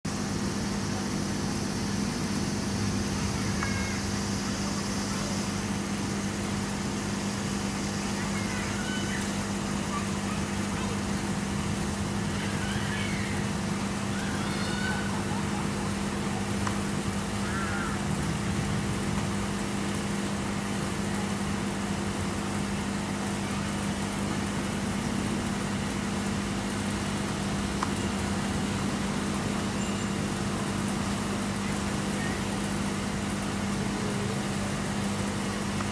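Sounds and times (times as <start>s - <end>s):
even hiss: 0.1s - 35.8s
aquarium equipment humming: 0.1s - 35.9s.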